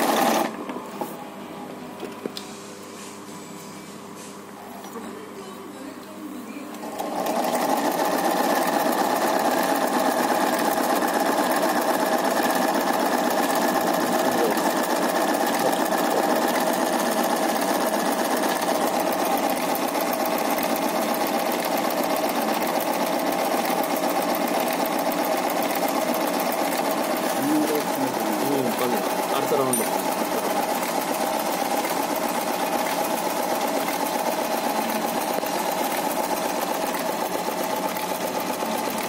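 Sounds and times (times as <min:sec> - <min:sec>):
sewing machine rattling: 0:00.0 - 0:00.6, 0:06.8 - 0:39.0.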